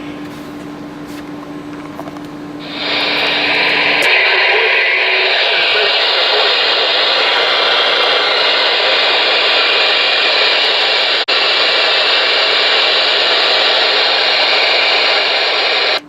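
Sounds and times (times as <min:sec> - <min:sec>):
radio static hiss: 0:02.6 - 0:16.0.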